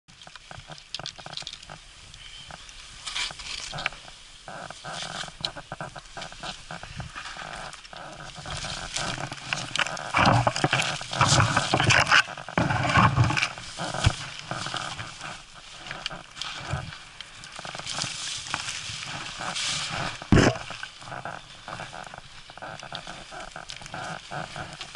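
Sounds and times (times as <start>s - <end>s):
branches scraping and snapping: 0.1s - 24.9s
skis ploughing through powder snow: 2.6s - 24.9s.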